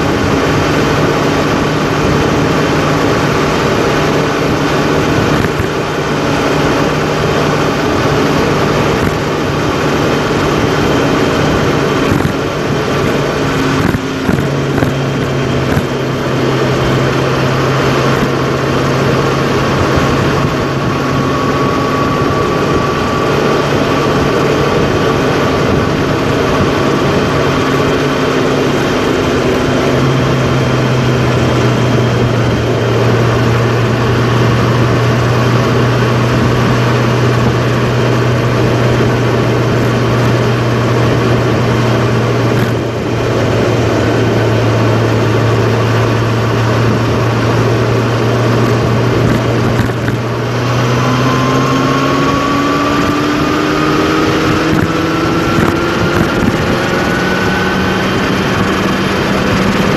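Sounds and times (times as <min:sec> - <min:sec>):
road noise: 0:00.0 - 0:59.9
vehicle engine drone: 0:00.0 - 0:59.9.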